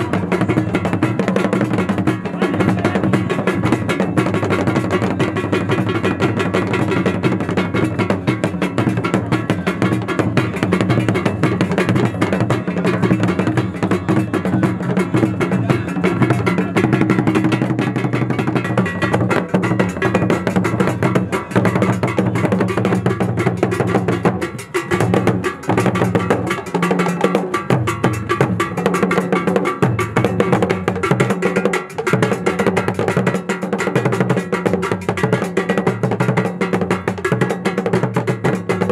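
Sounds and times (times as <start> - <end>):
drum ensemble playing fast rhythm: 0.0 - 38.9.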